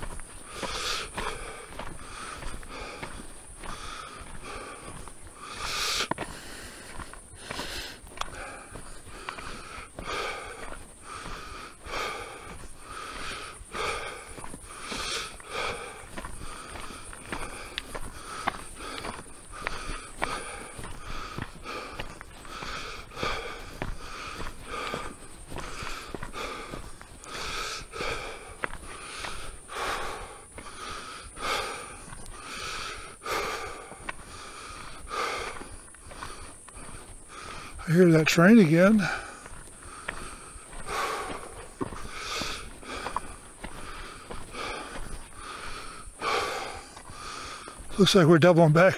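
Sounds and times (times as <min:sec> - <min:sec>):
man breathing heavily: 0:00.0 - 0:48.9.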